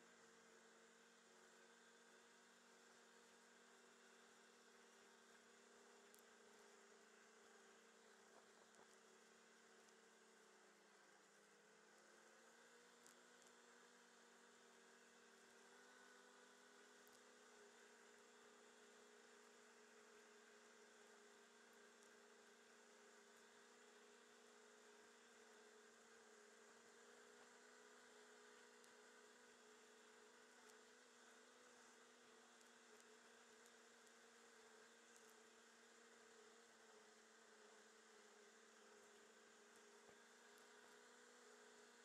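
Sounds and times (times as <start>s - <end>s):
faint snowmobile engine drone: 0.0s - 42.0s.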